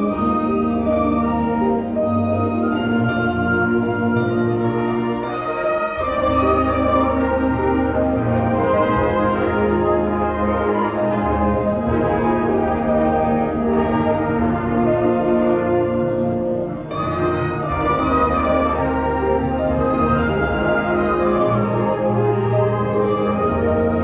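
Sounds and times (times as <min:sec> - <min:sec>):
concert band playing: 0:00.0 - 0:24.0.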